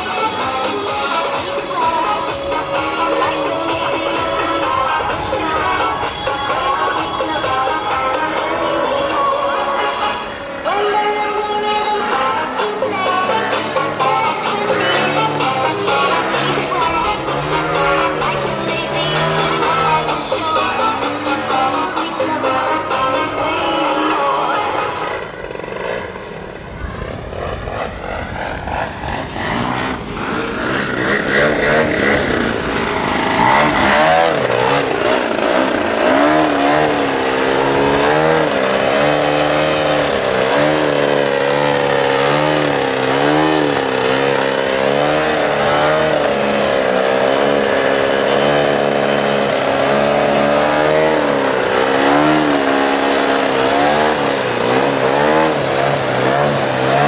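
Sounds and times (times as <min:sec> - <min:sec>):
model plane engine revving: 0:00.0 - 0:57.0.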